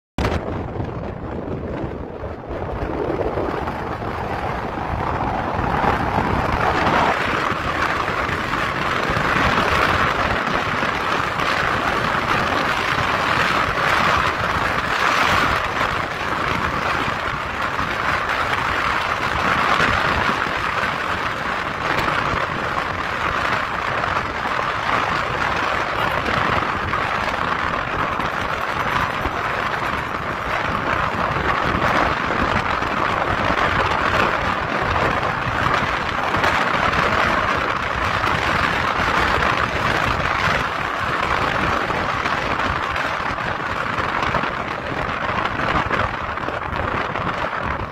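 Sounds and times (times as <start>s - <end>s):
road noise: 0.2s - 47.9s
wind buffeting microphone: 0.2s - 47.9s
wind rush from moving car: 0.2s - 47.9s.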